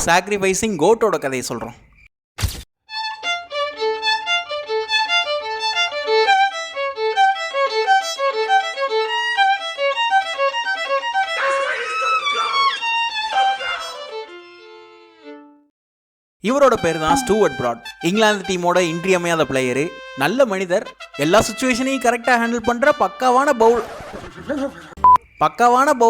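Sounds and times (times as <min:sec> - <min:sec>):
lively violin melody: 0:02.9 - 0:15.7, 0:16.4 - 0:25.0.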